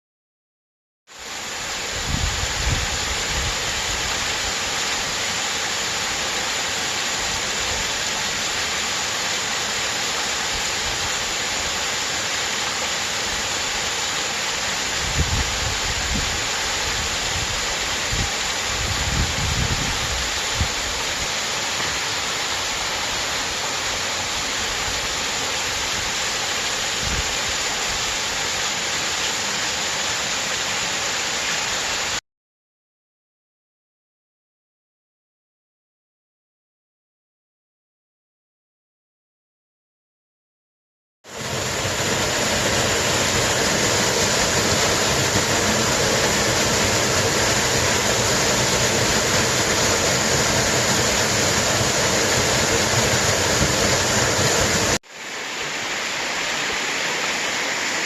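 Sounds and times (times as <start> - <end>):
stream water rushing over waterfalls: 1.1 - 32.2, 41.3 - 58.0.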